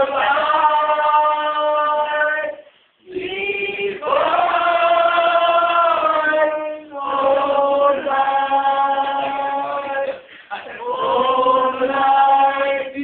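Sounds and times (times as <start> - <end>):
unaccompanied singing: 0.0 - 13.0.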